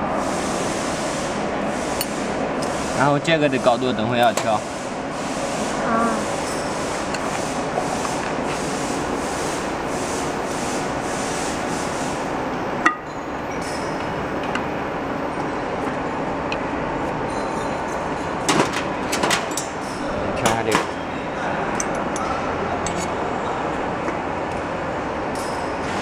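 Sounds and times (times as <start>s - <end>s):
machinery hum and hiss: 0.0s - 26.0s.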